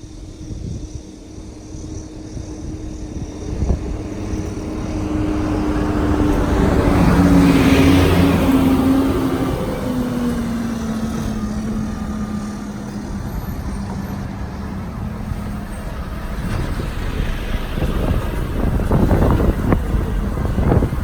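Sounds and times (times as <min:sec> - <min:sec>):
vehicle engine rumble: 0:00.0 - 0:21.0.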